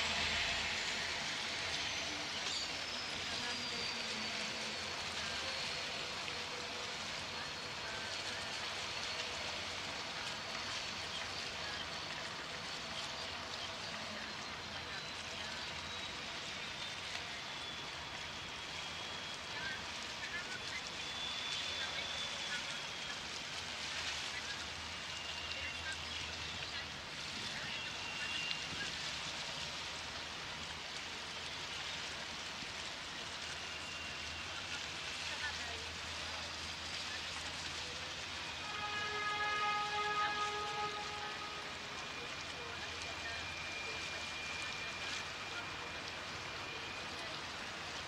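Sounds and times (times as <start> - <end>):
faint high whine: 0.0 - 48.0
rushing water and engine noise: 0.0 - 48.0.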